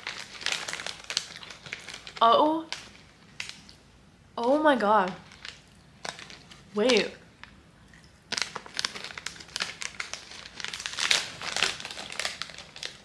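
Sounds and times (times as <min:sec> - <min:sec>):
plastic snack bag crinkling: 0:00.0 - 0:03.8, 0:04.4 - 0:13.0.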